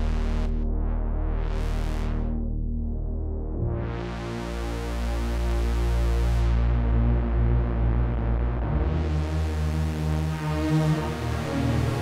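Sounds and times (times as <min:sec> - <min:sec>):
synthesizer held chords: 0:00.0 - 0:12.0.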